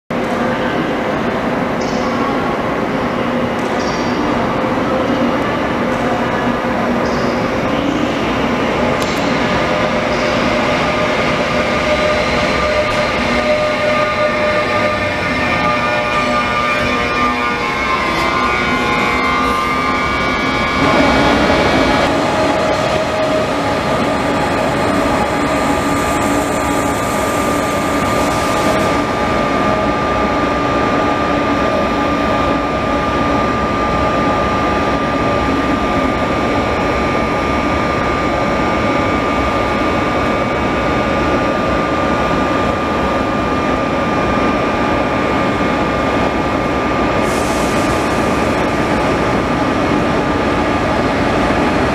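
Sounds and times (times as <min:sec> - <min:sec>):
train running noise: 0:00.1 - 0:51.9
high whine: 0:03.6 - 0:51.9
electric locomotive passing: 0:04.4 - 0:51.9.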